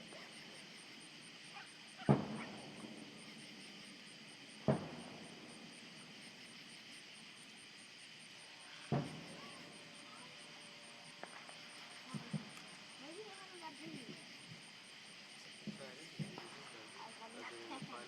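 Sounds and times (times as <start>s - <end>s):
distant fireworks booms: 0.0s - 8.0s, 8.6s - 18.0s.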